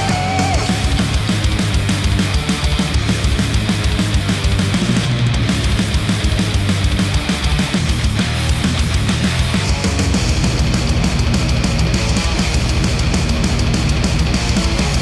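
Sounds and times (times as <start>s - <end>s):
heavy rock music: 0.0s - 15.0s
fast drum hits: 0.6s - 15.0s.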